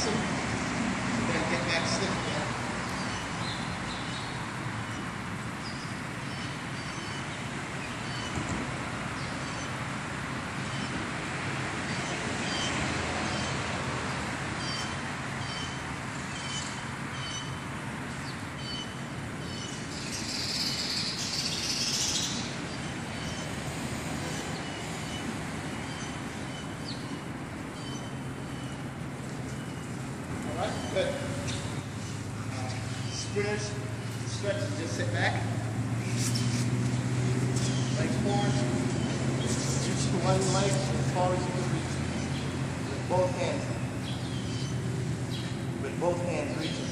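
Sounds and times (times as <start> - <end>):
open-air background hiss: 0.0 - 46.9
small birds chirping: 1.7 - 8.5, 14.6 - 35.1, 35.9 - 46.9.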